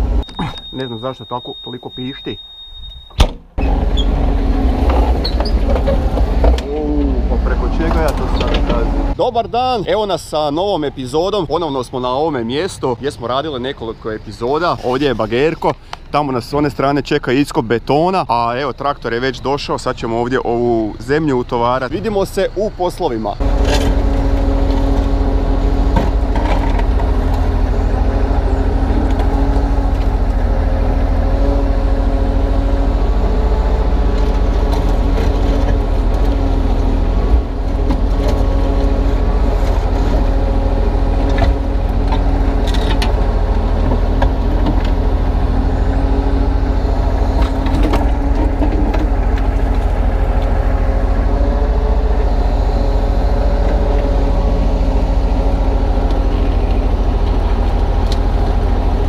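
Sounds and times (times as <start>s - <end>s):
excavator diesel engine running: 0.0s - 12.3s, 18.4s - 59.0s.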